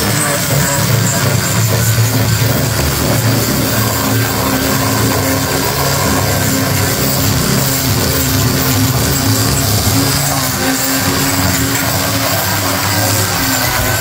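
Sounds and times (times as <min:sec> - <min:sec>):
electric sander motor hum: 0:00.0 - 0:14.0
sanding rasp on wood: 0:00.0 - 0:14.0.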